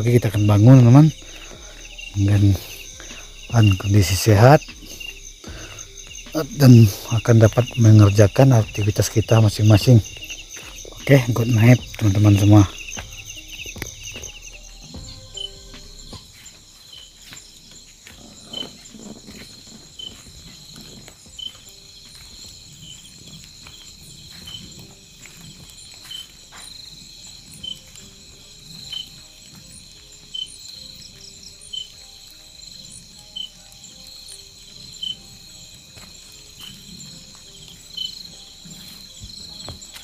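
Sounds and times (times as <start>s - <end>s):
night insects chirring: 0.0s - 40.0s.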